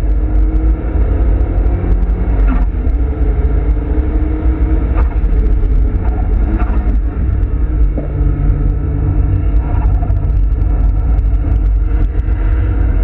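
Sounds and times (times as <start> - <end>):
car engine accelerating hard: 0.0 - 13.0
road and drivetrain rumble: 0.0 - 13.0.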